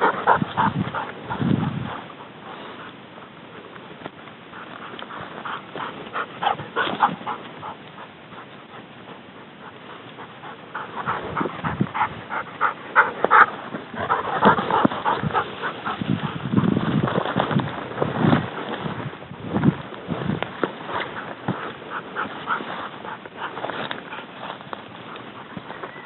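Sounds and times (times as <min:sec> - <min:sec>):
dog panting: 0:00.0 - 0:19.0, 0:20.6 - 0:26.0.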